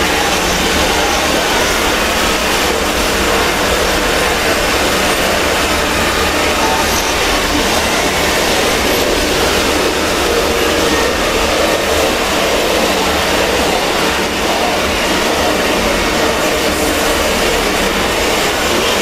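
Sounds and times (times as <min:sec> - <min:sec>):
distorted bass-boosted noise: 0:00.0 - 0:19.0.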